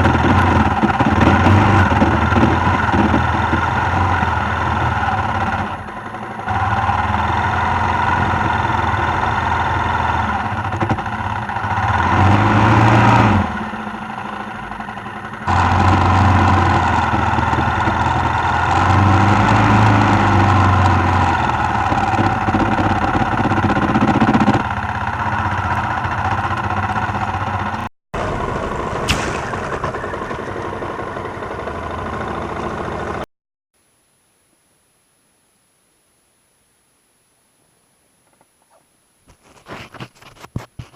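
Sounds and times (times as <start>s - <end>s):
motorcycle engine running: 0.0s - 33.3s.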